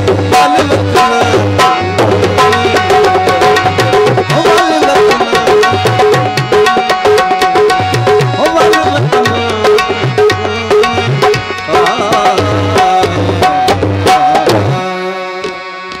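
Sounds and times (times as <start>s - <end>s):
hand drum strokes: 0.0s - 16.0s
harmonium melody: 0.0s - 16.0s.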